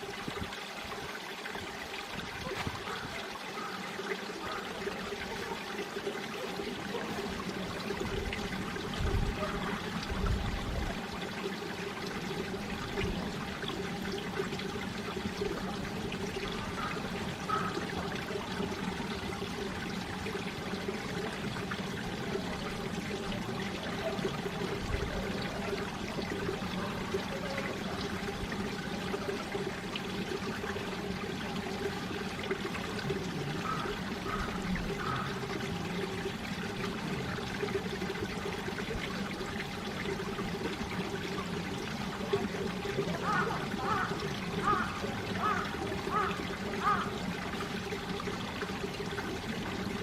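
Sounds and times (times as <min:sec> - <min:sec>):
stream flowing: 0:00.0 - 0:50.0.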